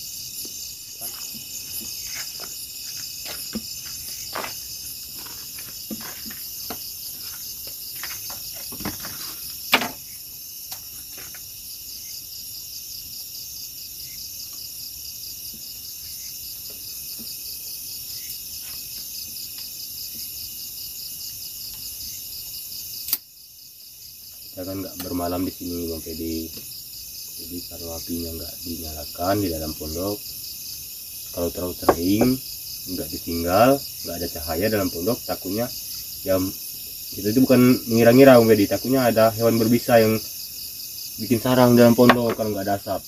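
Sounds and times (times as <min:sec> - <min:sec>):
crickets and night insects trilling: 0:00.0 - 0:43.0.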